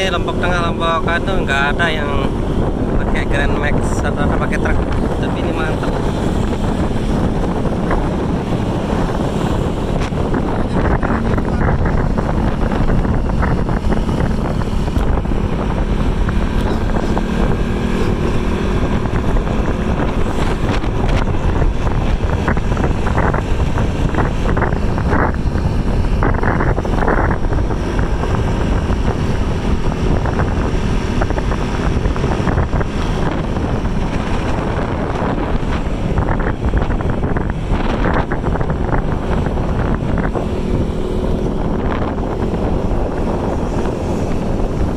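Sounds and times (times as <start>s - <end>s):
vehicle running noise: 0.0s - 44.9s
wind buffeting microphone: 0.0s - 44.9s.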